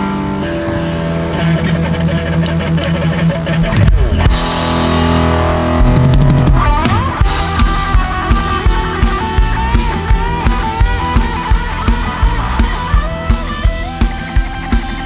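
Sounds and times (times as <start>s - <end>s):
electric guitar lead notes: 0.0s - 15.0s
steady drum beat: 2.4s - 15.0s.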